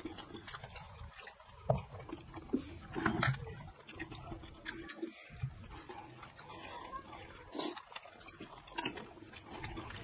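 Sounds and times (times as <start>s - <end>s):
sipping: 0.0s - 10.0s
wet chewing: 0.0s - 10.0s.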